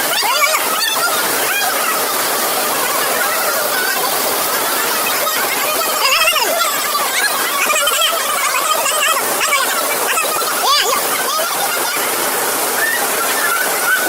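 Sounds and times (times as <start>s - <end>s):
flood water rushing: 0.0s - 14.0s
high-pitched wavering calls: 0.0s - 14.0s.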